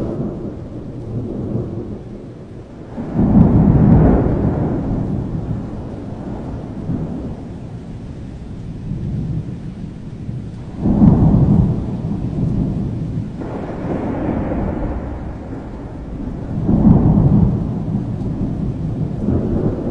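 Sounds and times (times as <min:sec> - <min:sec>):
steady rain: 0:00.0 - 0:19.9
thunder rumbling: 0:00.0 - 0:19.9.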